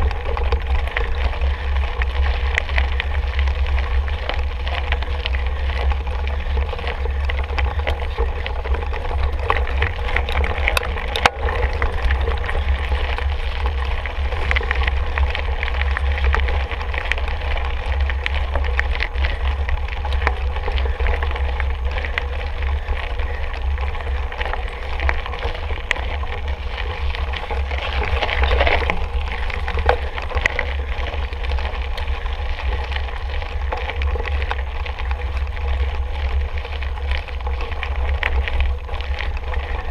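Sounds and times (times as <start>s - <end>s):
bike rattling on rough trail: 0.0s - 39.9s
wind rumble on microphone: 0.0s - 39.9s.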